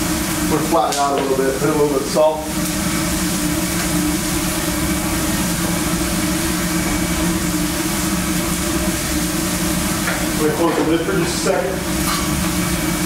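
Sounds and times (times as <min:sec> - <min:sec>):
low hum of kitchen equipment: 0:00.0 - 0:13.0
vegetables sizzling on a griddle: 0:00.0 - 0:13.0.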